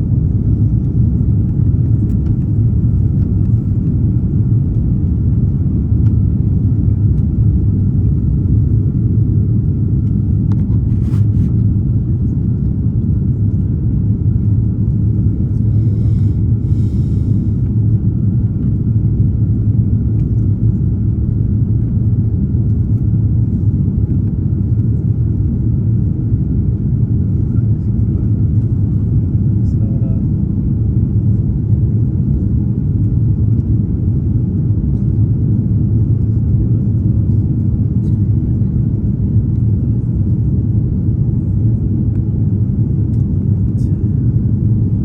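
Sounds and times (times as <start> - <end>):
airliner cabin rumble: 0.0 - 45.0.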